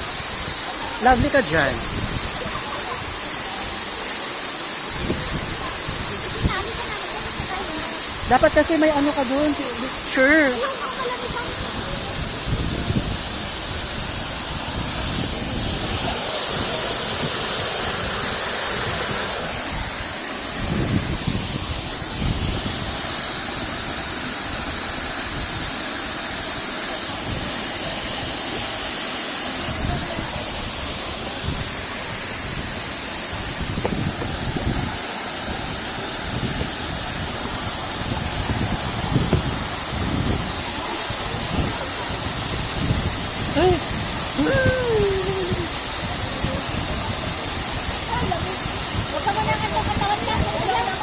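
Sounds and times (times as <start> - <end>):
waterfall rushing into pool: 0.0 - 51.0.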